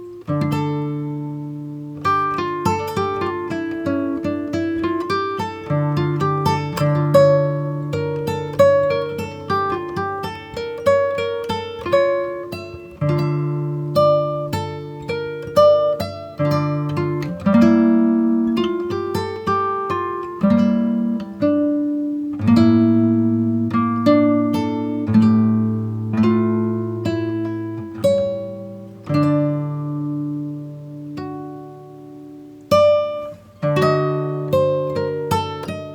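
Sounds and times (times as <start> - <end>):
acoustic guitar melody: 0.0 - 35.9.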